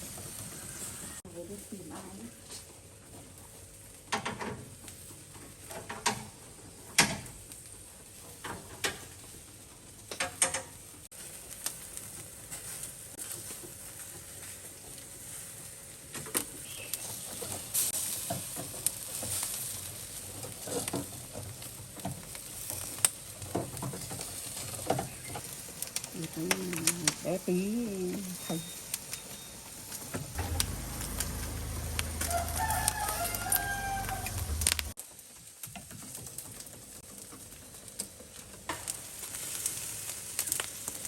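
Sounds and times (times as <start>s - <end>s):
food sizzling on a grill: 0.0s - 41.0s.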